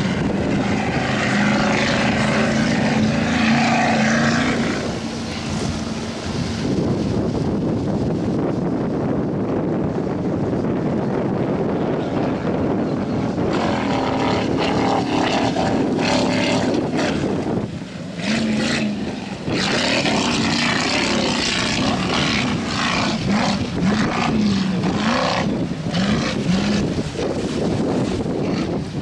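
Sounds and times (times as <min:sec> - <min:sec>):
distant powerboat engine: 0:00.0 - 0:29.0
wind buffeting microphone: 0:00.0 - 0:29.0.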